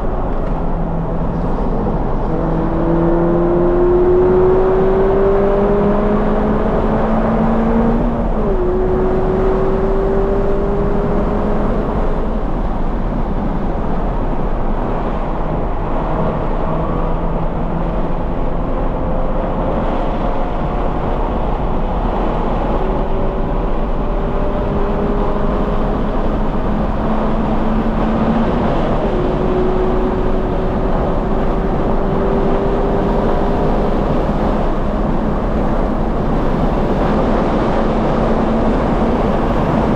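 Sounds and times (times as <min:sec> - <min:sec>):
car engine revving on a racetrack: 0:00.0 - 0:39.9
wind and road noise: 0:00.0 - 0:39.9.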